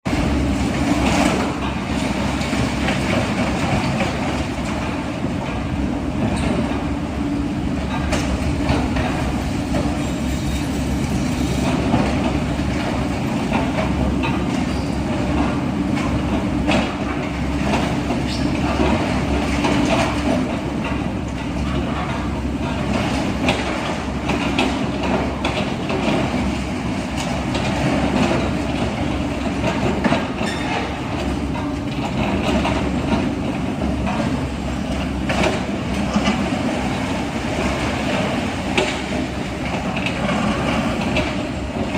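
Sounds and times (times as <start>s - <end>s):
heavy machinery rumble: 0.1s - 41.9s.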